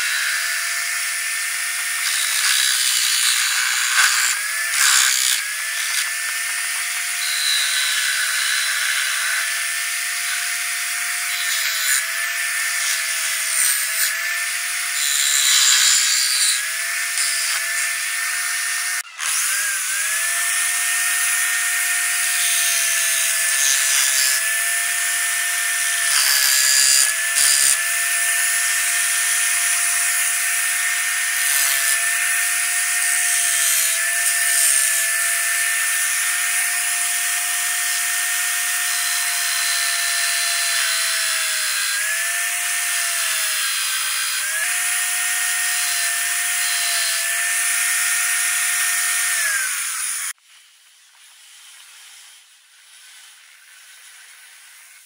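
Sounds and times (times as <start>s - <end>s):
chisel scraping spinning wood: 0.0s - 50.4s
electric drill whining: 0.0s - 50.4s.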